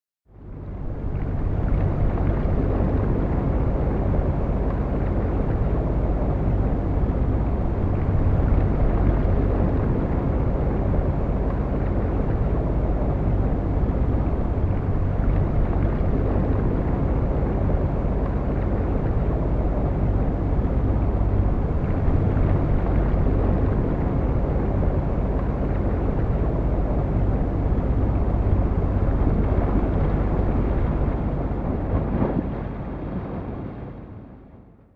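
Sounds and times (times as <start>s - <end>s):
low rumbling noise: 0.3s - 34.9s.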